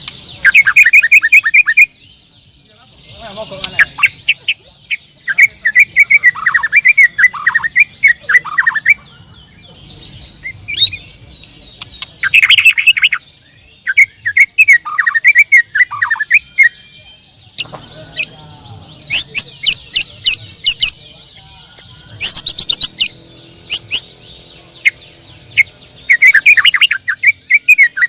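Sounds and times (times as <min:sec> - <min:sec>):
canaries singing chirps and trills: 0:00.0 - 0:28.0.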